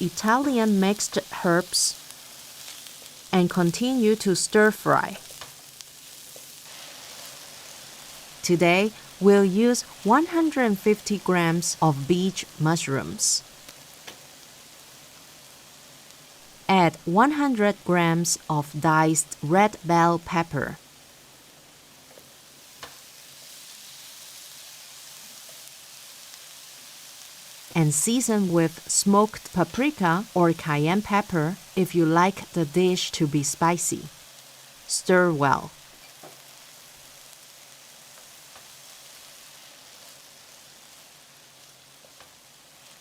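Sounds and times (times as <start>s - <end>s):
vegetables sizzling in a frying pan: 0.0s - 43.0s.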